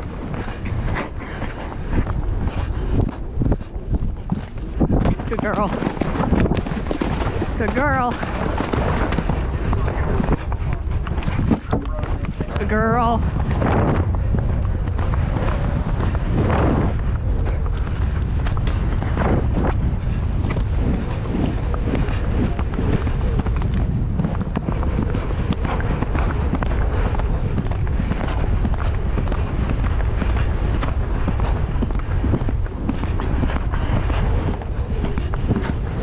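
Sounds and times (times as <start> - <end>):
horse hoofbeats galloping on grass: 0.0 - 36.0
wind on microphone: 0.0 - 36.0.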